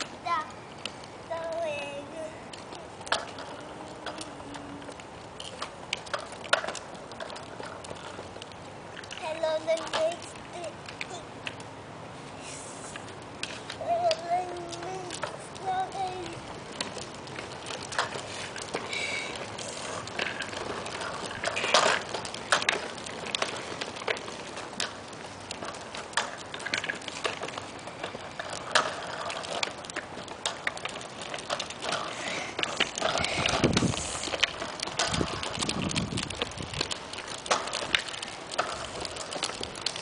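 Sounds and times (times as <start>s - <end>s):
wheels rattling on concrete: 0.0s - 40.0s.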